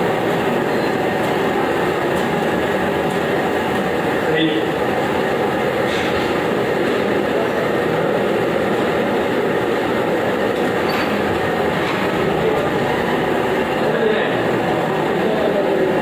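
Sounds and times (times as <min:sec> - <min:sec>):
treadmill motor and belt rumble: 0:00.0 - 0:16.0.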